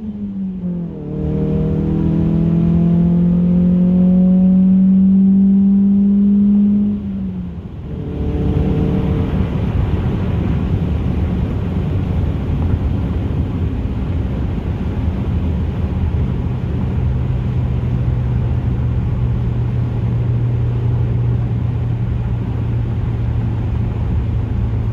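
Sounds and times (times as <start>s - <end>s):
car engine droning: 0.0s - 24.9s
rushing road noise: 0.0s - 24.9s.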